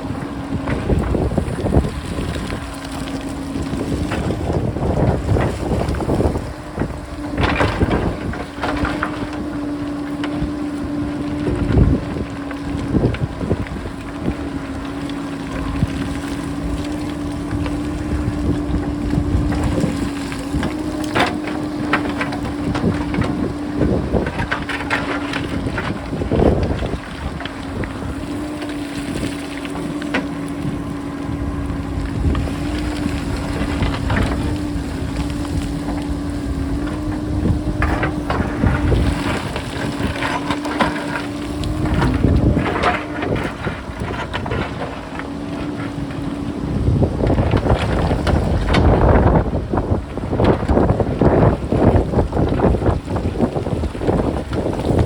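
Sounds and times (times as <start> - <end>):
diesel engine running: 0.0 - 55.0
wind buffeting microphone: 0.0 - 55.0.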